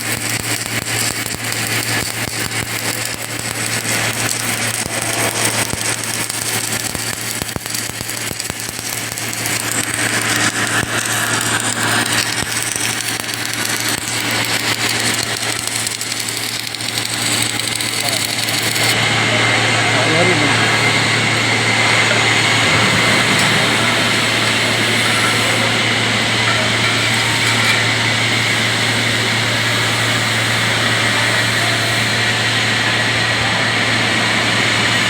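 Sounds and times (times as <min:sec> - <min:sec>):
welding hiss with crackling: 0:00.0 - 0:19.0, 0:22.4 - 0:33.2
welding machine hum: 0:00.0 - 0:35.0.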